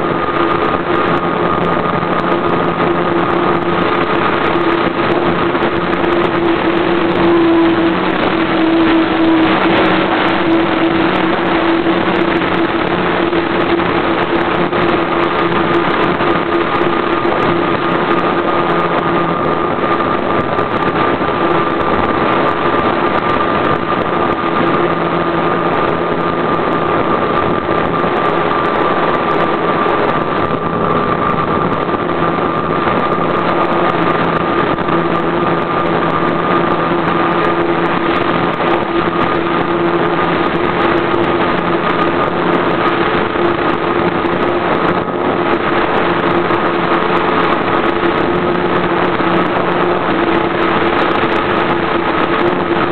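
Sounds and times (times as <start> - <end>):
model airplane engine running: 0.0 - 52.9
rushing air noise: 0.0 - 52.9.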